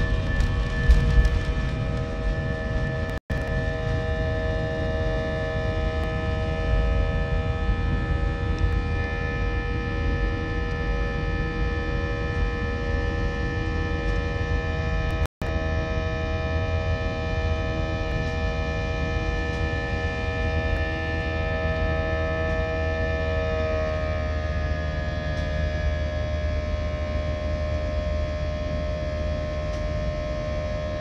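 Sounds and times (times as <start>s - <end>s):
jet engines rumbling and whining: 0.0s - 31.0s.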